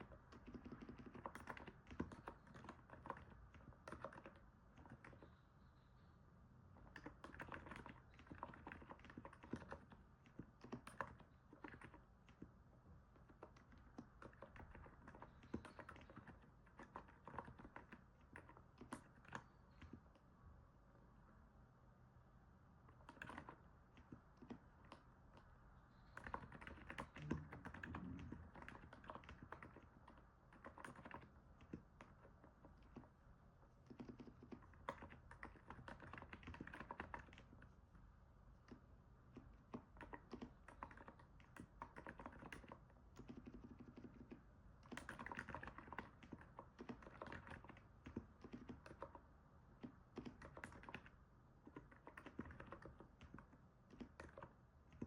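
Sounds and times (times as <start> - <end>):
soft keyboard typing: 0.0 - 5.6, 6.7 - 20.3, 22.8 - 55.0.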